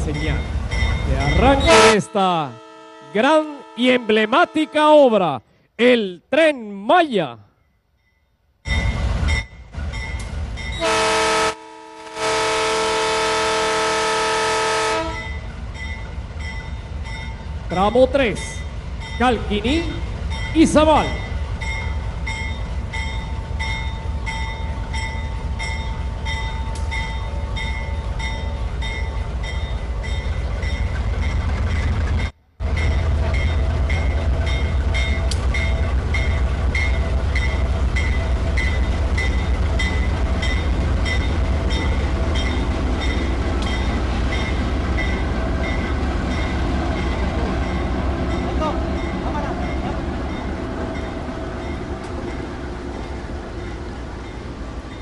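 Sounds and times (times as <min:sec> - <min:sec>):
locomotive engine rumble: 0:08.7 - 0:55.0.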